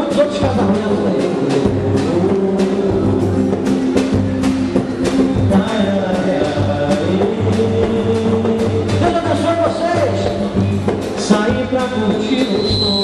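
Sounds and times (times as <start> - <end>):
bass line: 0.0 - 13.0
live band playing: 0.0 - 13.0
steady drum beat: 0.0 - 13.0.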